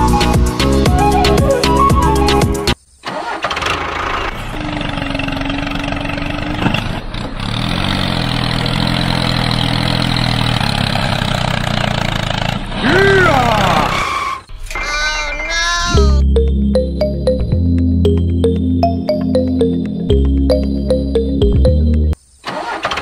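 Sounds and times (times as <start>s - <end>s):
tractor engine running: 0.0s - 15.2s, 15.9s - 23.0s.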